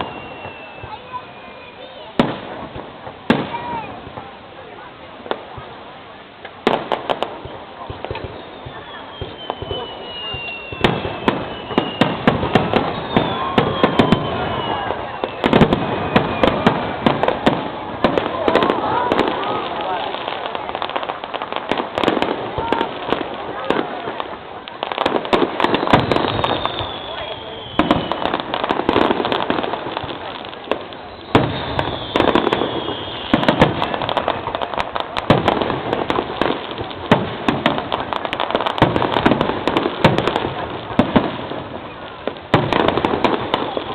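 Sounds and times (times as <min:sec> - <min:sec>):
falling firework whistles: 0:00.0 - 0:04.0, 0:06.6 - 0:43.9
fireworks bangs and crackles: 0:00.0 - 0:43.9.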